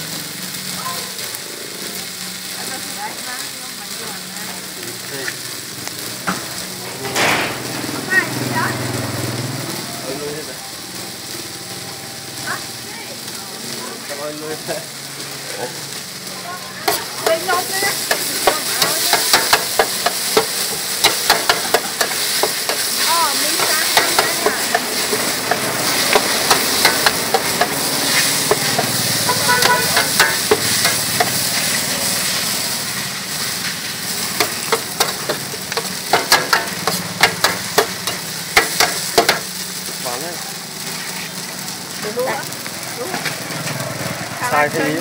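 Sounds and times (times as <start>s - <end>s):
noodles sizzling in a metal pan: 0.0s - 45.0s.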